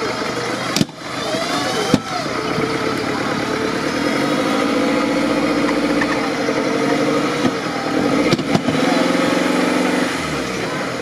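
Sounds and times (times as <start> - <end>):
buggy engine under load: 0.0 - 11.0.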